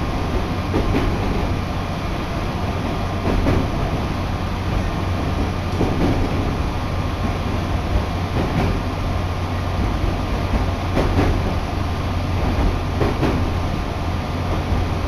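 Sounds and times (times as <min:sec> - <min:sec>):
train wheels rumbling: 0:00.0 - 0:15.0
wheels clacking over rail joints: 0:00.0 - 0:15.0.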